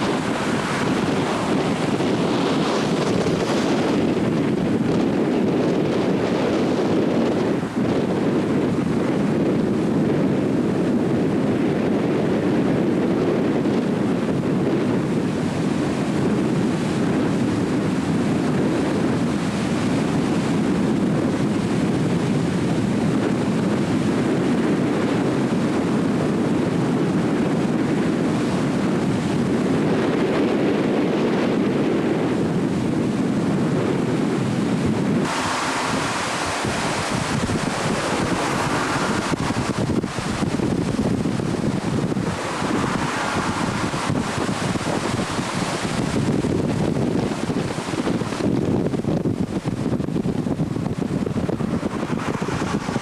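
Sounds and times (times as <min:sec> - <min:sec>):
rushing tidal water: 0:00.0 - 0:53.0
wind buffeting microphone: 0:00.0 - 0:53.0.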